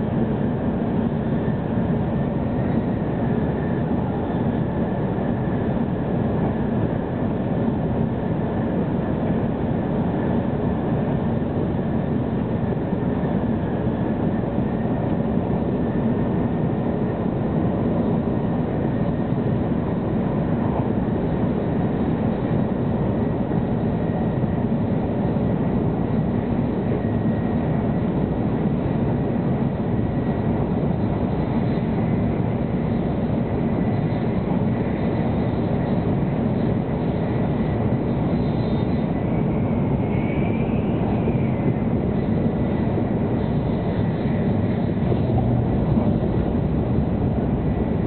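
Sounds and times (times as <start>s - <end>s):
faint high whine: 0.0s - 48.0s
train cabin low rumble: 0.0s - 48.0s.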